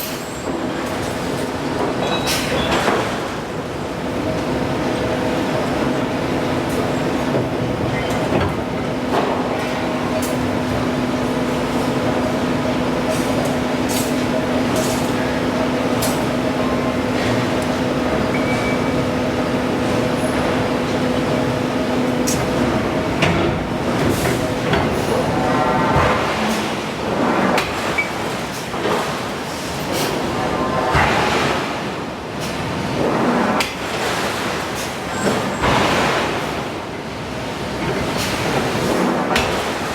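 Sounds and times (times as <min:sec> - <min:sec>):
machinery hum: 0:00.0 - 0:35.0.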